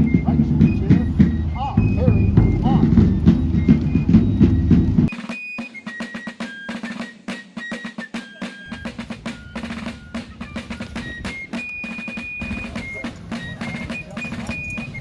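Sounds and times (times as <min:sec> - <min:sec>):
high whistling melody: 0:00.0 - 0:15.0
snare drum rolls: 0:00.0 - 0:15.0.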